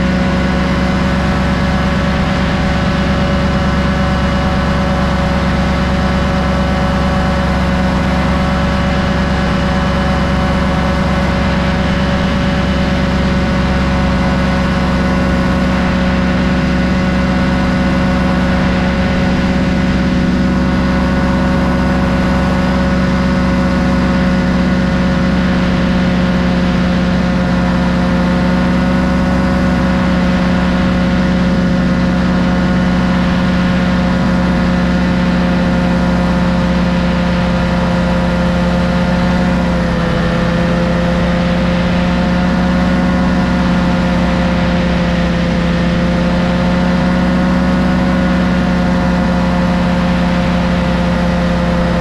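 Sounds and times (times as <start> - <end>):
paramotor engine and propeller: 0.0 - 52.0.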